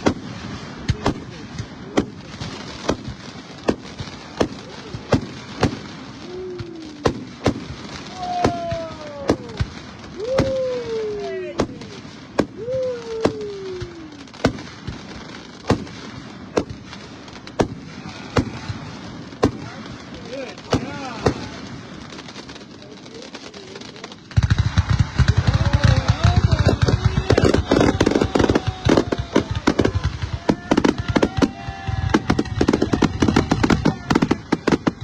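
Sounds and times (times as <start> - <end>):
falling firework whistles: 0.0 - 22.5, 24.5 - 35.0.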